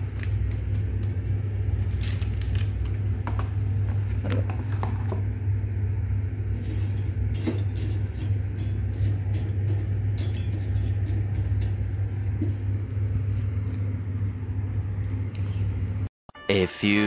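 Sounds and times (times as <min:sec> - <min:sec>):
steady low hum: 0:00.0 - 0:16.1.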